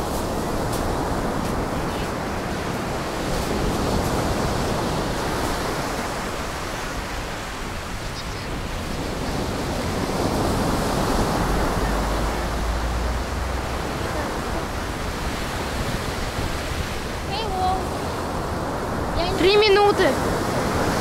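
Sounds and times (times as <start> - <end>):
heavy surf breaking: 0.0 - 21.0
large wave crashing: 0.0 - 21.0.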